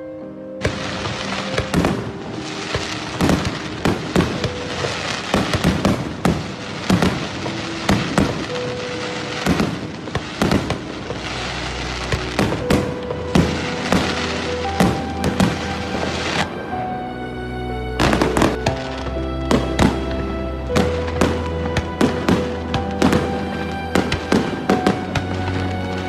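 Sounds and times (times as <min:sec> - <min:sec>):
soft background music: 0:00.0 - 0:26.0
fireworks bangs and crackles: 0:00.6 - 0:16.7, 0:18.0 - 0:26.0.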